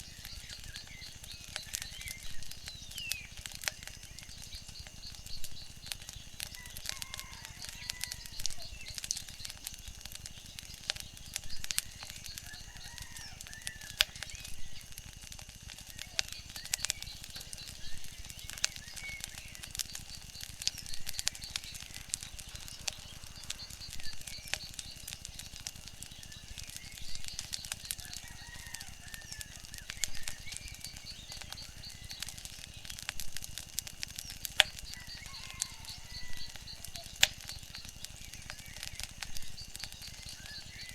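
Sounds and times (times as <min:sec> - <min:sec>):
bird chirps: 0:00.0 - 0:15.0, 0:15.8 - 0:33.1, 0:34.0 - 0:40.9
wood fire crackling and popping: 0:00.0 - 0:40.9.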